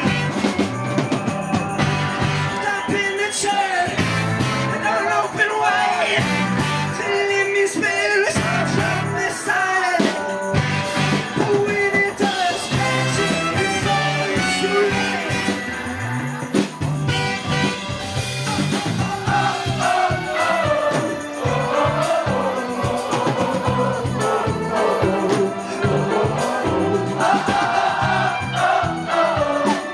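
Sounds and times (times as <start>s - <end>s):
live rock band with horns: 0.0s - 29.9s
voices singing loudly together: 0.7s - 16.5s, 18.4s - 29.9s.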